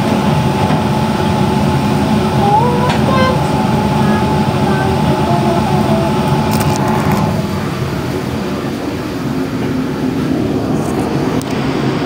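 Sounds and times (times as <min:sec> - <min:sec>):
kitchen burners and fans roaring: 0:00.0 - 0:12.0.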